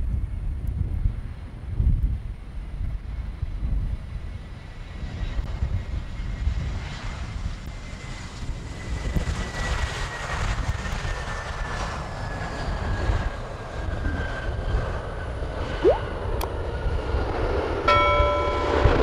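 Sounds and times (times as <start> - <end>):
jet engine rumble and whine: 0.0 - 19.0.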